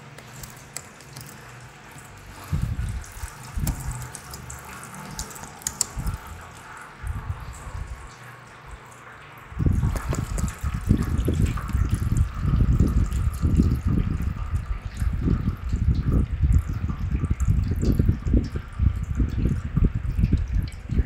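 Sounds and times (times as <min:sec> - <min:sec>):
coolant splashing into metal pan: 0:00.0 - 0:21.0.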